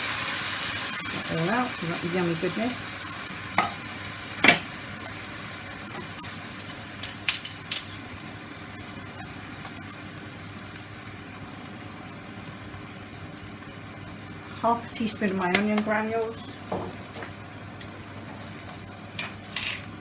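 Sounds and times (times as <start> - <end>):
faint sizzle from frying pan: 0.0 - 20.0.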